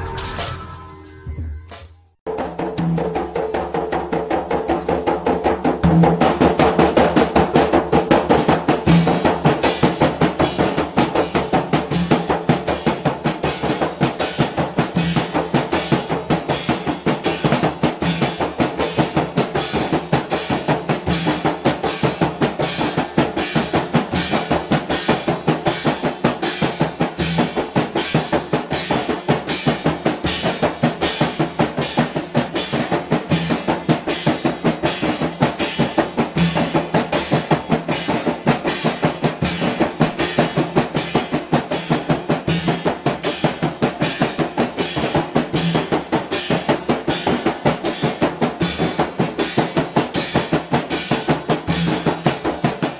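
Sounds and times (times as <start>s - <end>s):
frame drums struck by hand: 0.0s - 52.9s.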